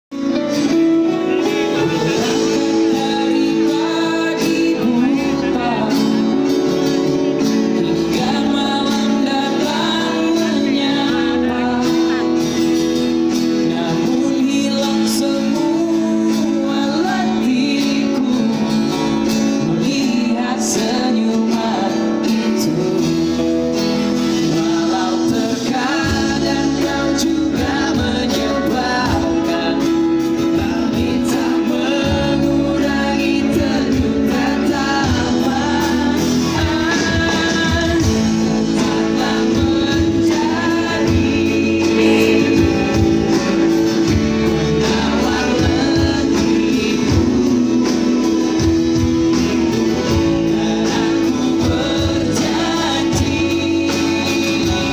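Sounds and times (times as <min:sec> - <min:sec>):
acoustic guitar: 0:00.0 - 0:54.9
bass guitar: 0:00.0 - 0:54.9
drums: 0:00.0 - 0:54.9
man singing lead vocal: 0:00.0 - 0:54.9
electric guitars: 0:00.1 - 0:54.9.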